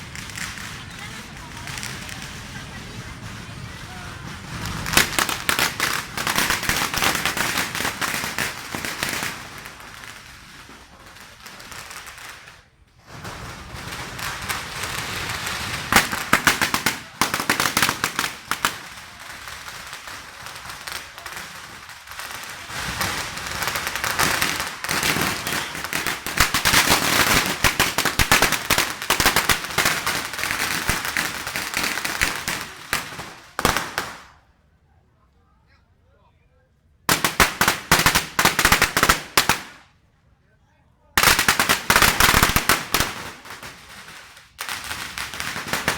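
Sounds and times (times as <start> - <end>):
firecrackers crackling: 0.0 - 34.7, 37.0 - 40.1, 41.2 - 45.9.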